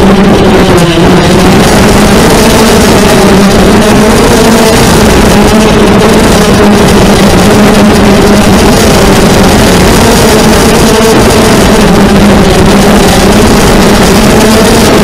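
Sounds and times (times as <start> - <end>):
quadcopter motors buzzing: 0.0 - 15.0.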